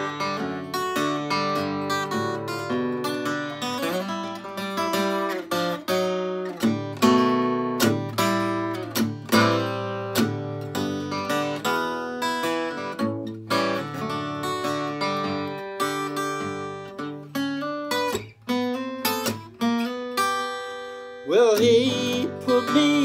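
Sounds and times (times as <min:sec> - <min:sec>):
solo acoustic guitar: 0:00.0 - 0:23.0.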